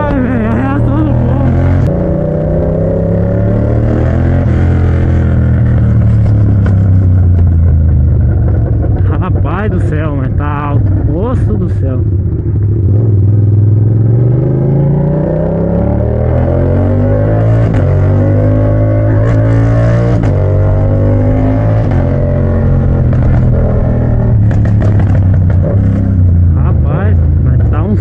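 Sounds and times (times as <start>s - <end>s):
loud motorcycle engine running: 0.0s - 28.0s.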